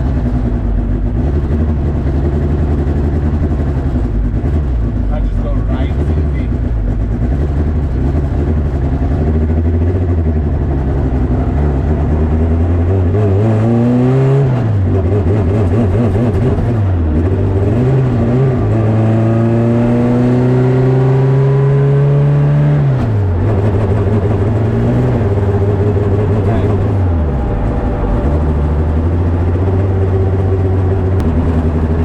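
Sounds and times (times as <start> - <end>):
car engine revving under load: 0.0 - 32.0.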